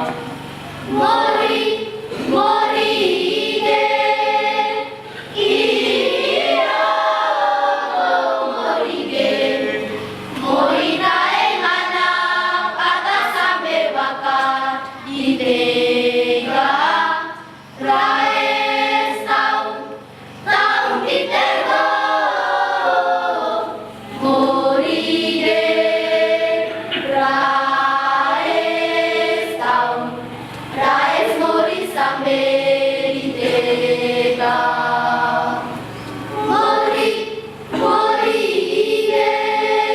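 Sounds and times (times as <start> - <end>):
children's choir singing a hymn: 0.0 - 39.9.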